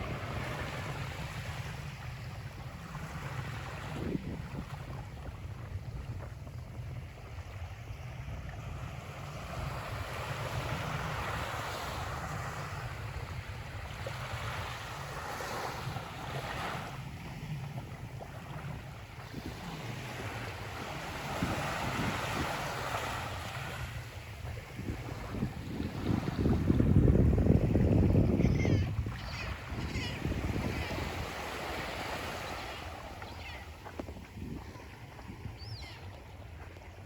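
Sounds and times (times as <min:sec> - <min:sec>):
small waves washing onto beach: 0:00.0 - 0:37.0
wind rumble on microphone: 0:00.0 - 0:37.0.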